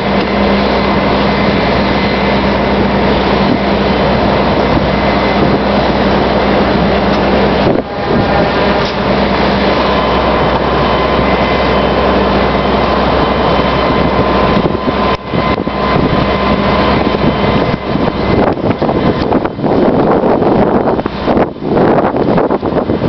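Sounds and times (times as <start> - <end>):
fire truck engine running: 0.0 - 23.0
loud rushing noise: 0.0 - 23.0.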